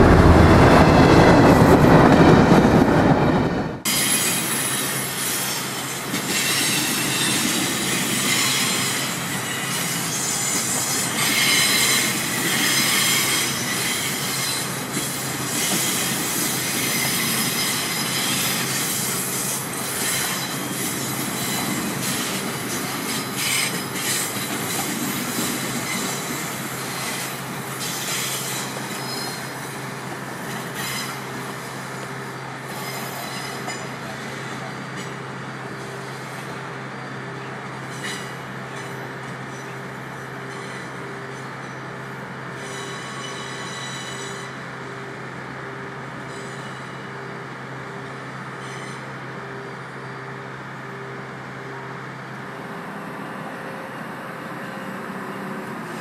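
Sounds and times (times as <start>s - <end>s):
train wheels squealing on rails: 0.8s - 56.0s.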